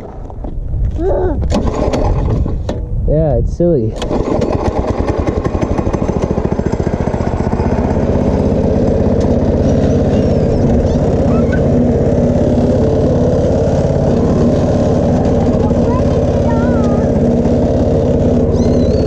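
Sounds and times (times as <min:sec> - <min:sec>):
go-kart engine running: 0:01.4 - 0:02.8, 0:04.0 - 0:19.0.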